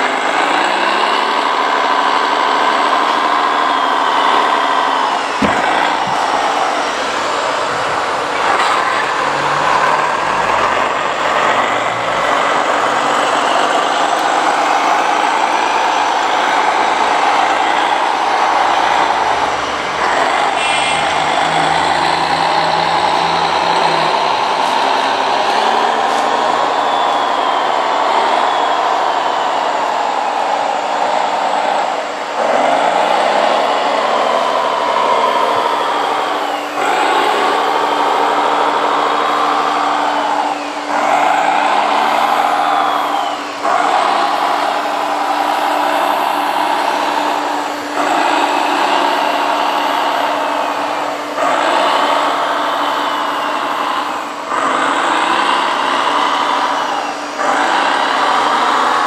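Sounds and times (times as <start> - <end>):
toy truck motor whining: 0.0 - 59.0.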